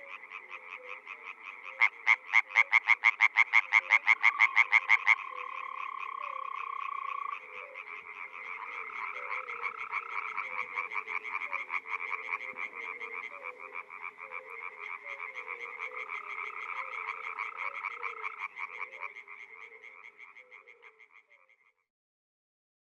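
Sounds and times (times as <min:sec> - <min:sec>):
frogs trilling: 0:00.0 - 0:21.8.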